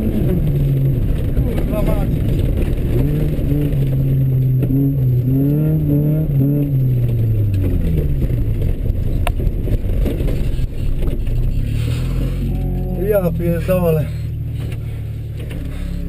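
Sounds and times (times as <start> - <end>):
car engine revving: 0.0 - 16.0
road and gravel noise: 0.0 - 16.0.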